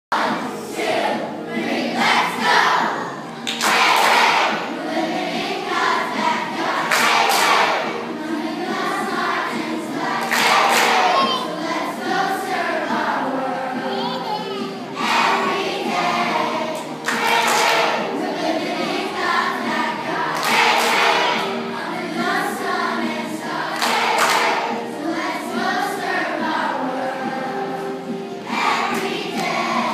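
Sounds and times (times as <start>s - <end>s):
children singing together: 0.1s - 29.9s.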